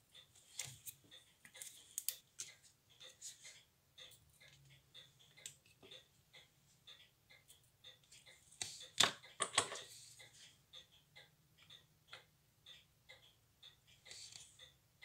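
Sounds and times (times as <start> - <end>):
pocket watch ticking: 0.0 - 15.0.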